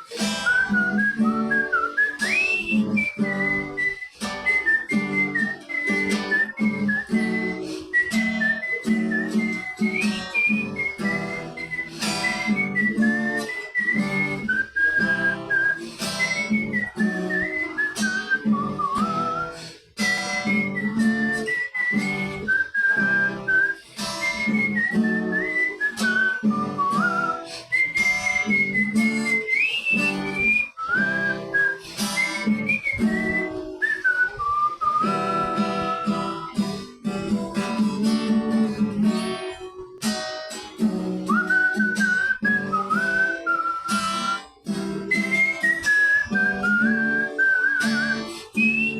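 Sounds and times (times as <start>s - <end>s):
acoustic guitar strumming: 0.0s - 48.9s
person whistling melody: 0.0s - 48.9s.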